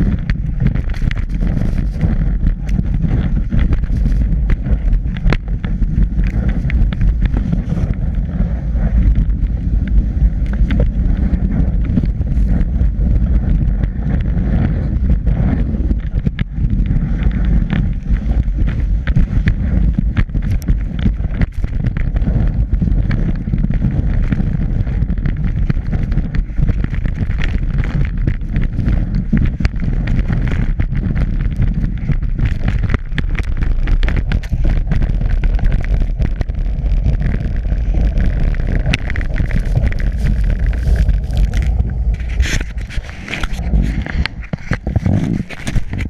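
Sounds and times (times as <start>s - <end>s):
camera knocks and rattles: 0.0s - 46.0s
skis scraping over snow: 0.0s - 46.0s
wind rumble on microphone: 0.0s - 46.0s.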